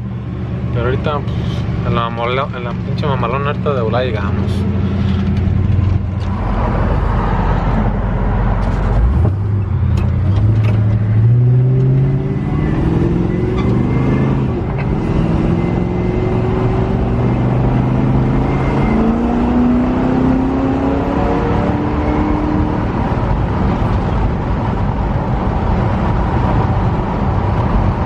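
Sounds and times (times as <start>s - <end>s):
truck engine accelerating: 0.0s - 28.0s.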